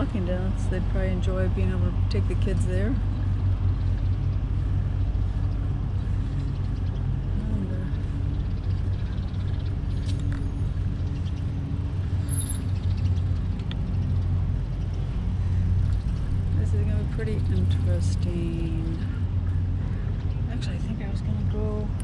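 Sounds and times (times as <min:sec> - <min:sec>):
small vehicle humming and rumbling: 0:00.0 - 0:22.0.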